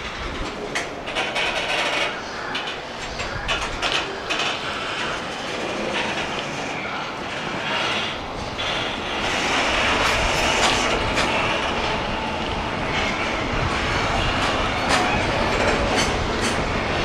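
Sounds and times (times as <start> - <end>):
freight train wheels clattering: 0.0 - 17.0.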